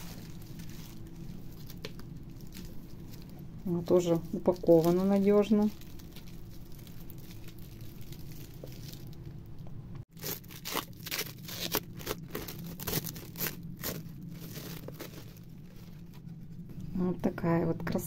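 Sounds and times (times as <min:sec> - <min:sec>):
cling film crinkling and crackling: 0:00.0 - 0:16.8.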